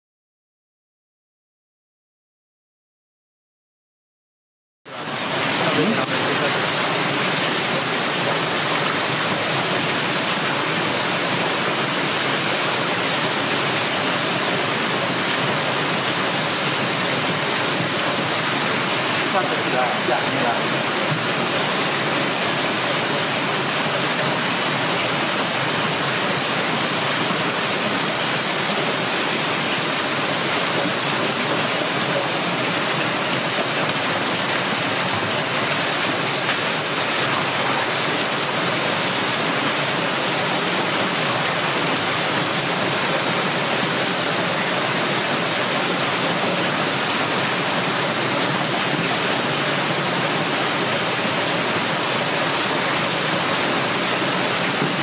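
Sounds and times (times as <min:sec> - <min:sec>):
running water rushing: 0:04.9 - 0:55.0.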